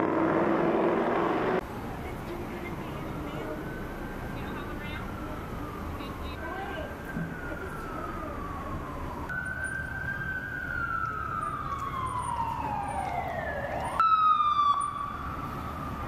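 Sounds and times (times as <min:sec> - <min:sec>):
fire engine siren wailing: 0:00.0 - 0:16.0.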